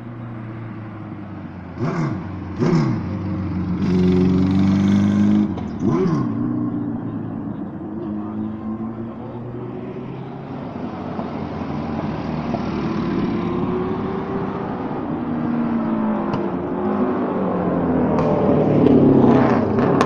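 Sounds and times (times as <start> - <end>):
racing engines revving past: 1.7 - 20.0.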